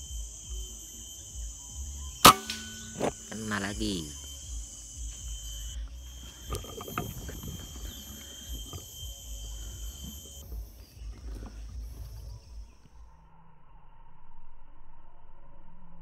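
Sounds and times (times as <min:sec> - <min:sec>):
high-pitched insect drone: 0:00.0 - 0:14.1.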